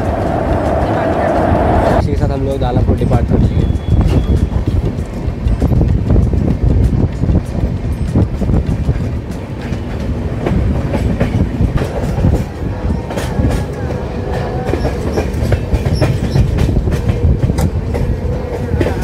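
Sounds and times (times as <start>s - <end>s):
train wheels clattering over rail joints: 2.4s - 19.0s.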